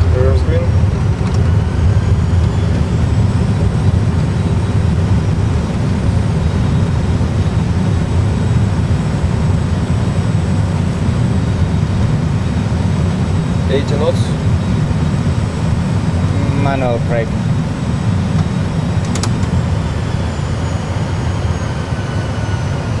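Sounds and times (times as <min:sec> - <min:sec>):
jet engine reverse thrust rumble: 0:00.0 - 0:23.0.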